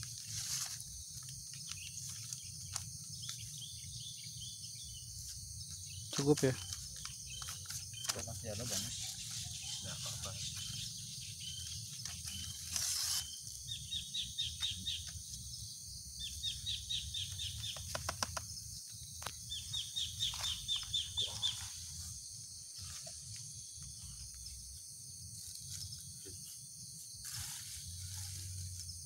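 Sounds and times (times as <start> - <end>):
rustle: 0.0 - 5.5, 6.1 - 15.5, 19.2 - 29.0.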